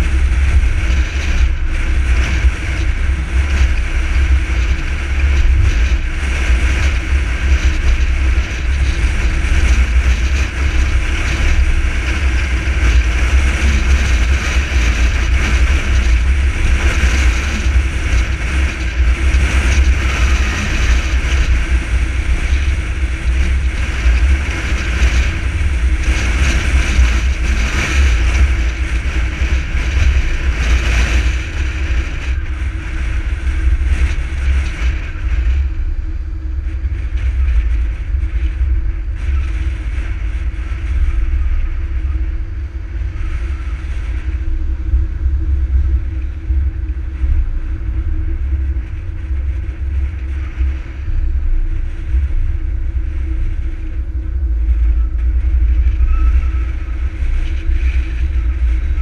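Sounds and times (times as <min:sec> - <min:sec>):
car road and engine noise: 0:00.0 - 0:59.0
wind rumble on microphone: 0:00.0 - 0:59.0.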